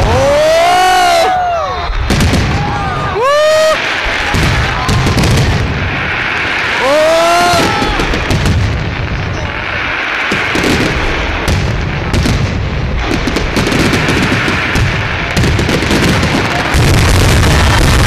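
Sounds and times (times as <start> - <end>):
fireworks booming and crackling: 0.0 - 18.0
whistling firework: 0.0 - 18.0.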